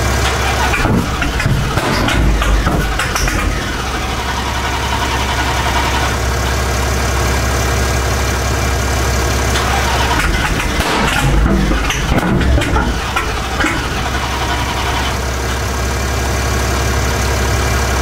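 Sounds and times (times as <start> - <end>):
car engine idling loudly: 0.0 - 18.0.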